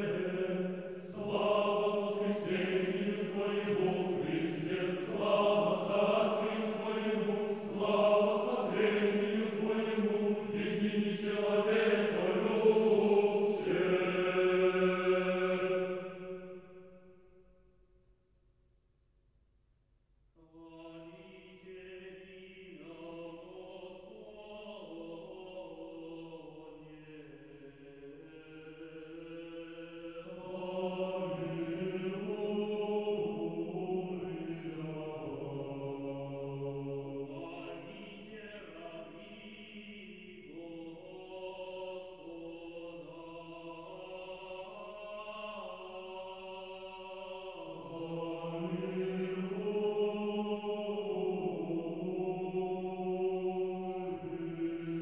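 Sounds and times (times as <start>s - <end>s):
choir chanting held notes: 0.0s - 16.6s, 20.8s - 55.0s.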